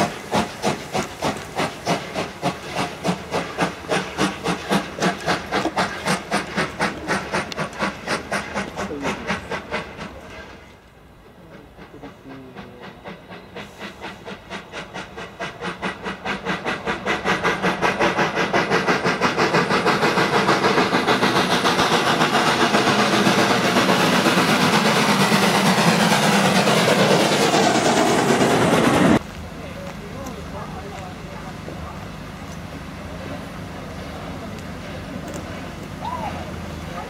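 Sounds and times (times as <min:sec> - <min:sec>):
steam locomotive chuffing: 0:00.0 - 0:37.0.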